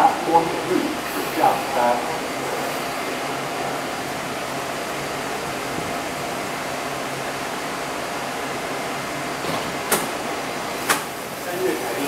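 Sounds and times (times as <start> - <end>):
station ventilation noise: 0.0 - 12.0
train equipment humming: 0.0 - 12.0.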